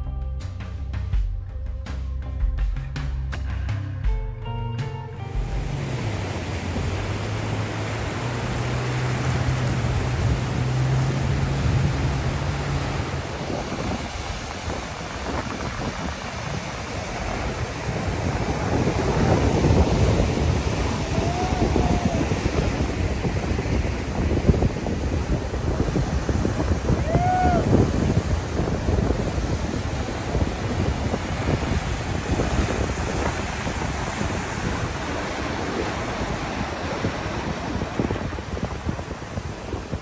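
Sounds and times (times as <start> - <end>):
surf breaking over rocks: 5.3 - 40.0
wind buffeting microphone: 5.3 - 40.0.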